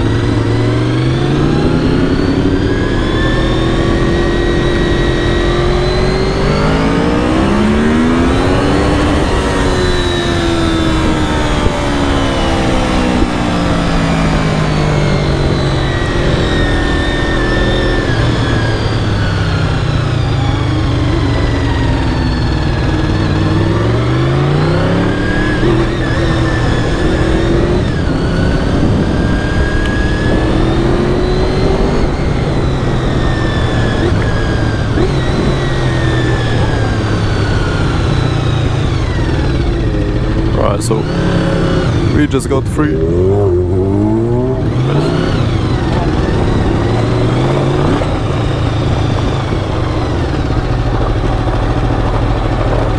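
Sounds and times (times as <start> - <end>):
motorcycle engine running: 0.0 - 52.9
wind rushing past microphone: 0.0 - 52.9.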